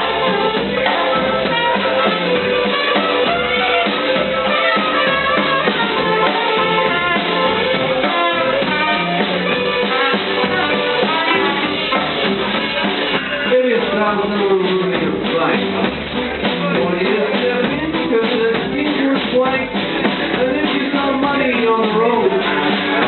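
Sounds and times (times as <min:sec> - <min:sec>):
swing band playing: 0:00.0 - 0:23.0.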